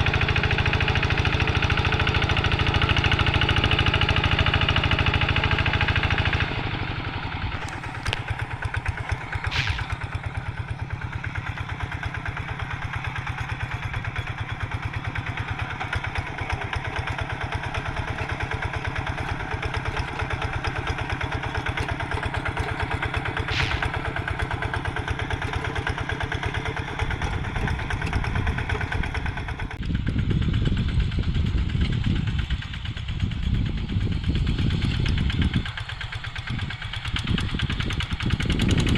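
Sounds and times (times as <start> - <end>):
hand tractor diesel engine: 0.0 - 38.9.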